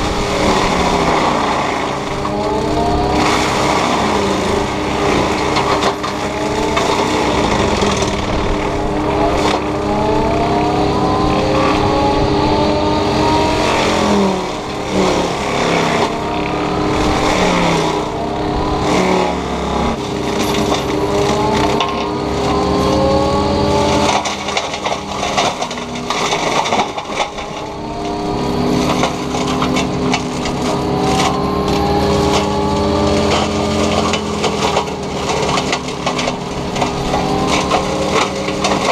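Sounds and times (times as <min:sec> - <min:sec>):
excavator engine running under load: 0:00.0 - 0:38.9
mulching head shredding brush: 0:00.0 - 0:38.9
rising mechanical whine: 0:00.0 - 0:38.9.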